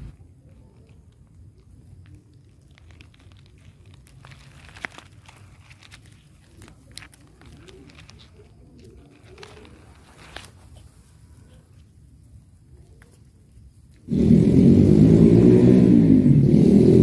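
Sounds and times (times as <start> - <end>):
grass rustling and crackling: 0.0 - 14.9.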